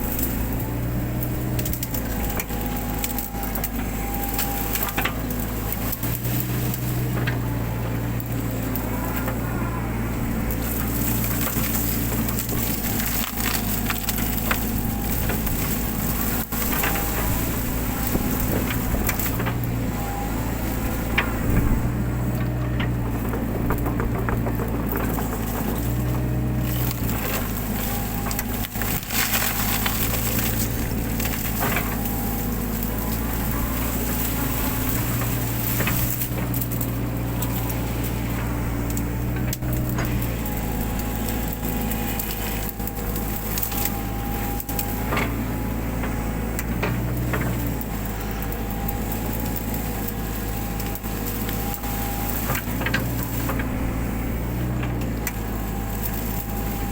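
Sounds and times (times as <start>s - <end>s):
brush cracking and snapping: 0.0s - 56.9s
excavator engine running: 0.0s - 56.9s
hydraulic whine: 0.0s - 56.9s.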